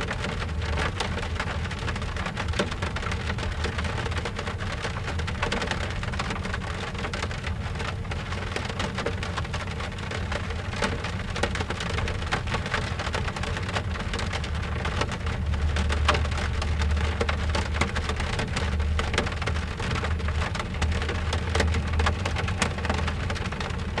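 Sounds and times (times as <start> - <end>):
rain on car window: 0.0 - 24.0.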